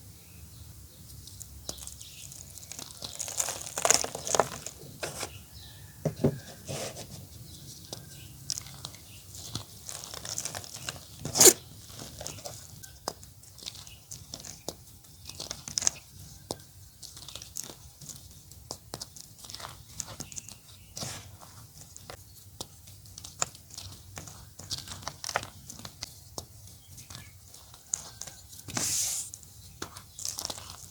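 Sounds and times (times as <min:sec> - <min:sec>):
chalk crumbling crackles: 0:01.1 - 0:05.4, 0:06.2 - 0:30.9.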